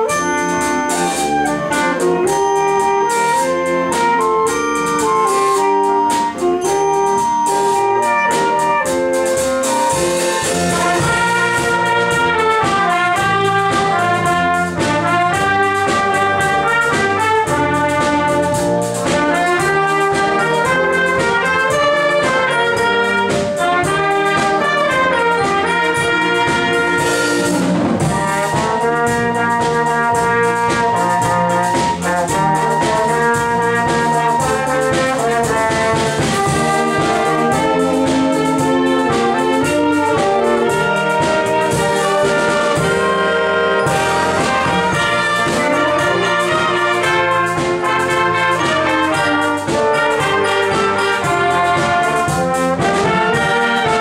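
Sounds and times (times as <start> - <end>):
wind band playing pop melody: 0.0 - 54.0.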